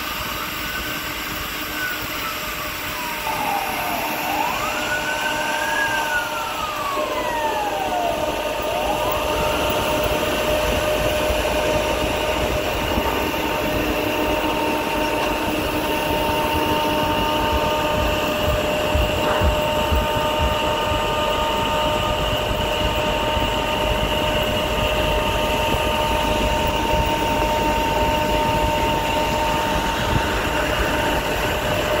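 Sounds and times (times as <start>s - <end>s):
mist cannon fan whine: 0.0s - 32.0s
siren wailing: 0.1s - 32.0s
traffic rumble: 2.9s - 32.0s.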